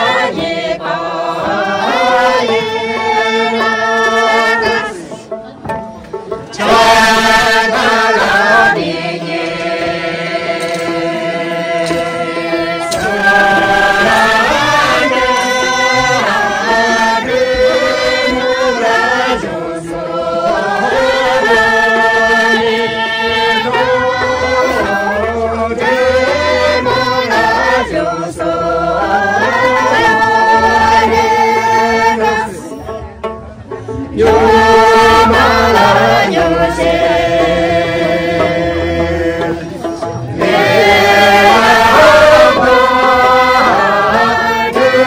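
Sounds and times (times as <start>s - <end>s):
group singing folk song: 0.0s - 45.0s.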